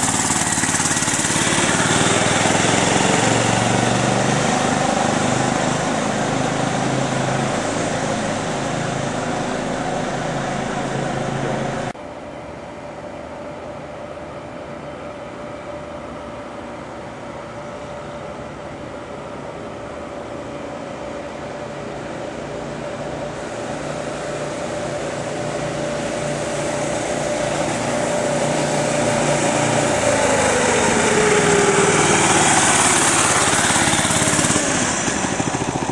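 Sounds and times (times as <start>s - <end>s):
minibike engine approaching: 0.0s - 35.9s.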